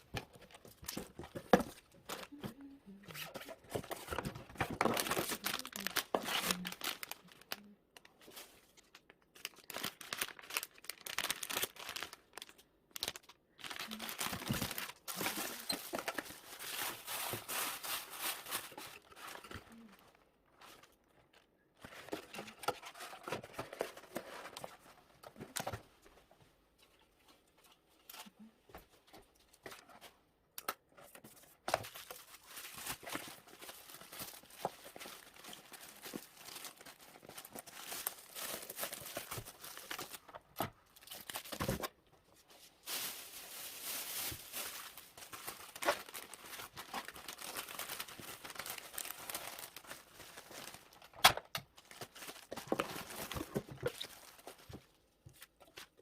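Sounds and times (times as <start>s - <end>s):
packing materials crinkling: 0.0s - 25.8s, 31.0s - 56.0s.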